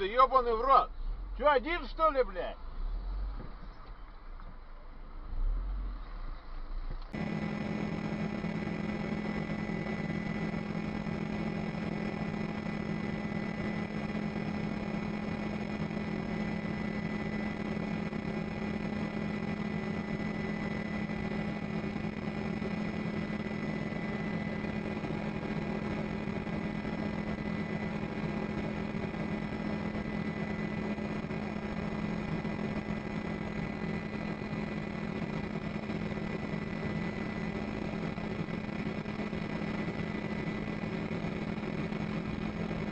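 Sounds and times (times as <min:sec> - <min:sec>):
faint whining tones: 0:00.0 - 0:42.9
low mechanical hum: 0:00.0 - 0:42.9.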